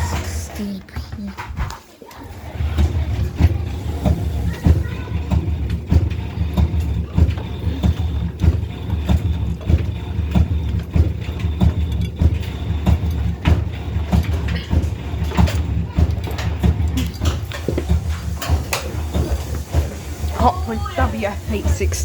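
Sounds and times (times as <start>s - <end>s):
washing machine drum rumbling: 0.0s - 22.0s.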